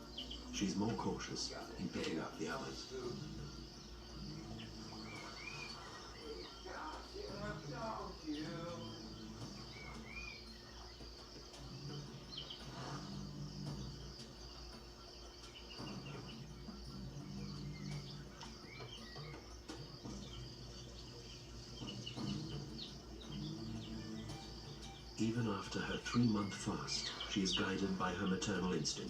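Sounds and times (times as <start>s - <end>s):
insects chirping: 0.0s - 29.0s
low hum: 0.0s - 29.0s.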